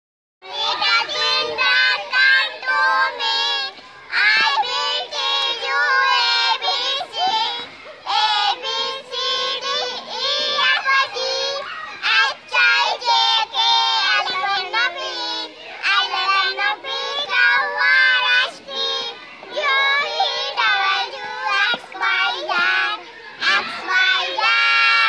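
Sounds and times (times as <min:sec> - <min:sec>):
girls singing together: 0:00.4 - 0:25.0.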